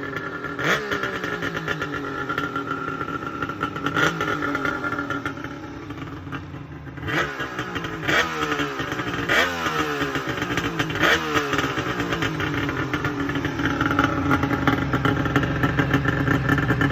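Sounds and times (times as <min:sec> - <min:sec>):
two-stroke engine revving: 0:00.0 - 0:16.9.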